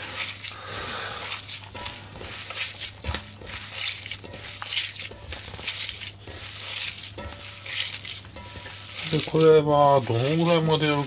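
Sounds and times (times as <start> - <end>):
hands squishing wet meat: 0.0 - 11.0.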